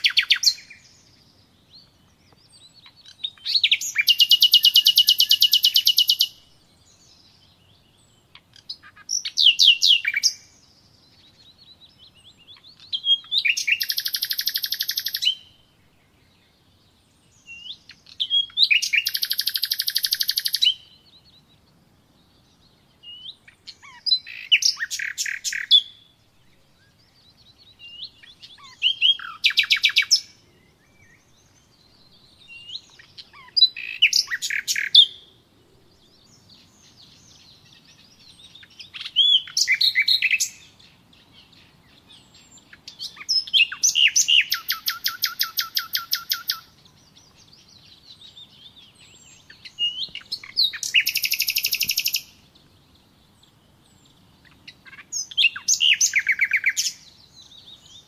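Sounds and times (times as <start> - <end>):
songbird trilling: 0.0 - 15.7, 17.4 - 21.5, 22.5 - 26.1, 26.8 - 35.4, 36.1 - 58.0.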